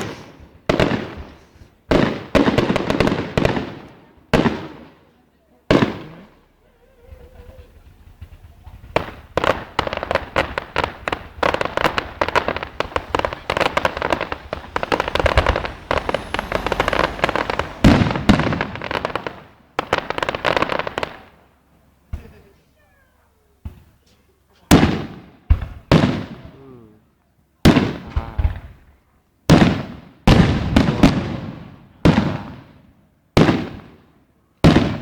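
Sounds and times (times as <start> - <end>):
deep fireworks booms: 0.0 - 6.5, 7.1 - 22.4, 24.7 - 26.5, 29.5 - 34.0, 34.6 - 35.0
fireworks crackling bangs: 0.0 - 22.6, 23.6 - 26.6, 29.5 - 35.0.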